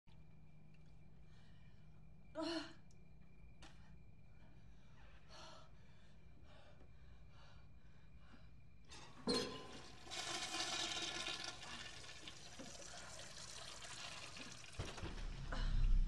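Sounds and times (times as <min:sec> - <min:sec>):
faint steady hum: 0:00.1 - 0:16.0.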